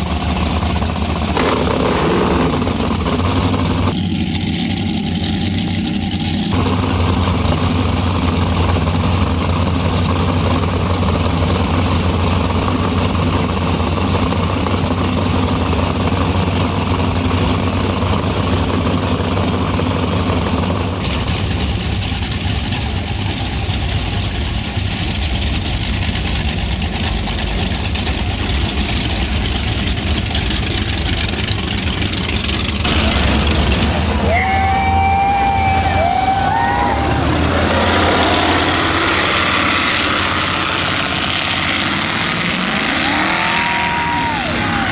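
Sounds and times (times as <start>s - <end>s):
boat running past under power: 0.0s - 44.9s
powerboat engines idling: 0.0s - 44.9s.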